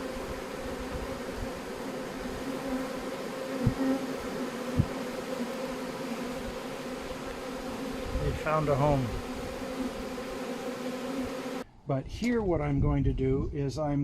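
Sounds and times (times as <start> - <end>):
bees humming: 0.0 - 11.6.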